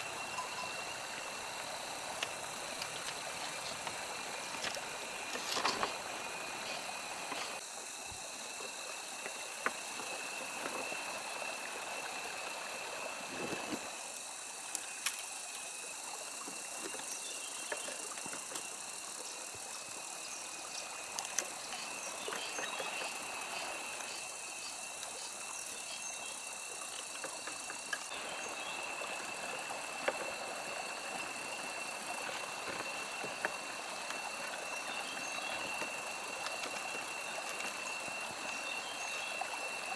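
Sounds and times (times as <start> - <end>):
water-like hiss: 0.0 - 39.9.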